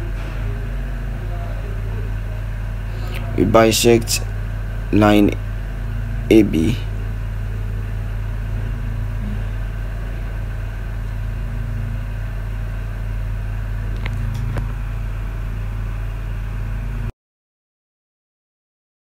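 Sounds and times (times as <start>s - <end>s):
low mechanical hum: 0.0s - 17.1s.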